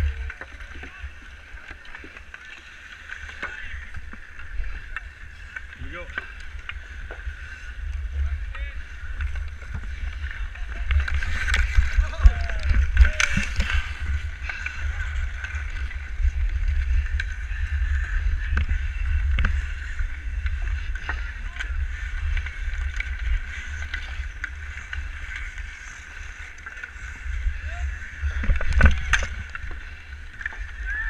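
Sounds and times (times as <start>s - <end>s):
microphone low rumble: 0.0s - 1.6s, 3.4s - 31.0s
ice-skate blades scraping ice: 0.0s - 8.2s, 8.8s - 31.0s
hockey sticks clacking: 0.0s - 27.4s.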